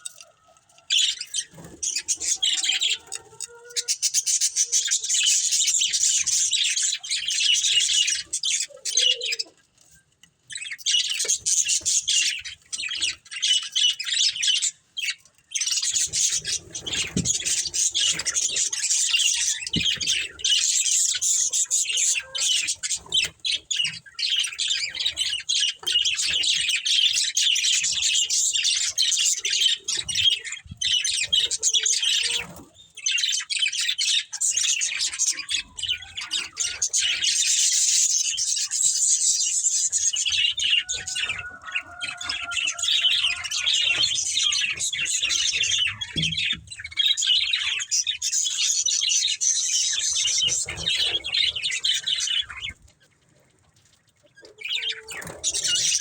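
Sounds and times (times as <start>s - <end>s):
budgerigars chirping: 0.9s - 9.5s, 10.5s - 52.8s, 54.4s - 56.0s.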